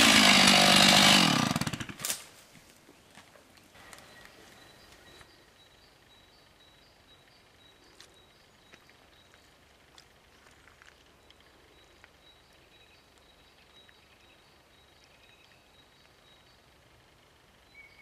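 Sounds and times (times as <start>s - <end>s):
faint steady high whine: 2.3s - 18.0s.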